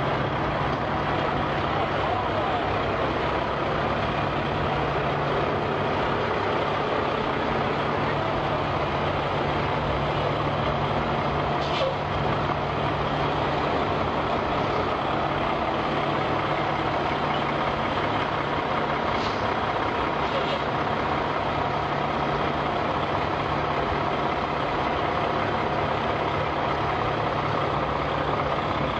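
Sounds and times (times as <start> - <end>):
diesel truck engine running: 0.0 - 28.9.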